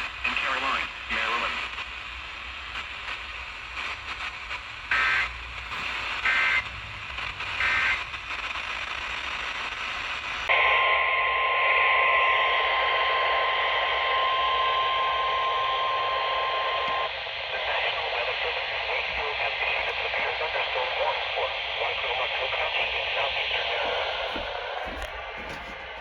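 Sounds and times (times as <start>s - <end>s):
static hiss: 0.0s - 26.0s.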